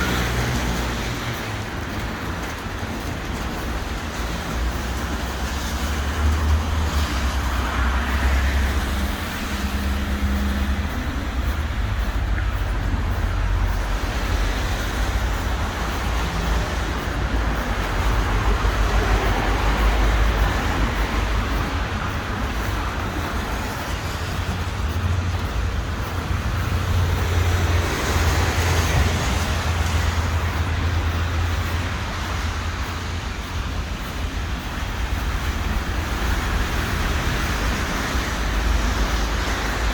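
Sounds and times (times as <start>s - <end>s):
vehicles passing: 0.0s - 39.9s.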